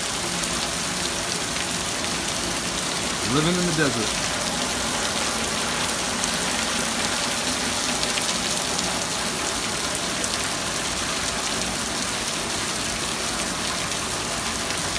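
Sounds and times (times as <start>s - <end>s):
rain on hard surfaces: 0.0s - 14.9s.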